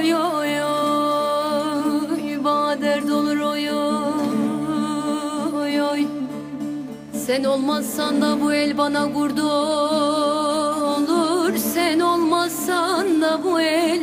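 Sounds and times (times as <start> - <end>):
folk singing with wavering notes: 0.0 - 14.0.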